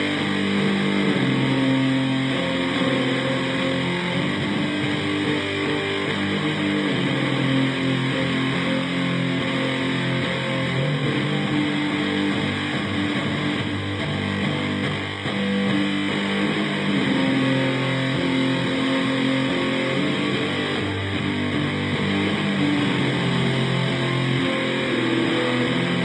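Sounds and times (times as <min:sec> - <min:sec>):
distorted electric guitar riffs: 0:00.0 - 0:26.0.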